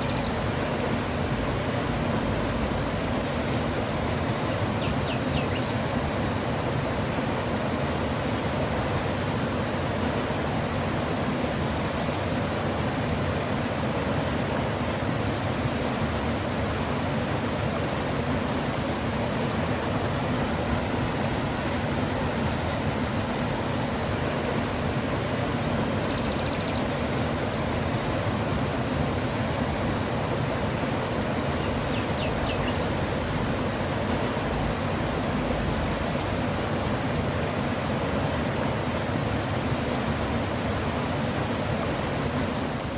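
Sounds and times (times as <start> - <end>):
insect chirping: 0.0 - 11.3, 17.1 - 19.1, 20.0 - 39.7, 40.4 - 42.9
river water rushing: 0.0 - 42.9.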